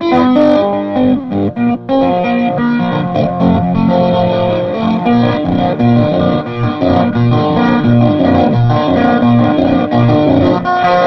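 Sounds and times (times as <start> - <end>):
distorted electric guitar solo: 0.0 - 11.0.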